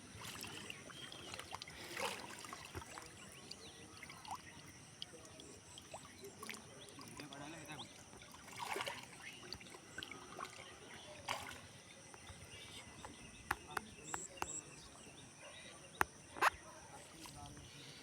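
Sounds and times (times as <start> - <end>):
muddy water sloshing: 0.0 - 17.8.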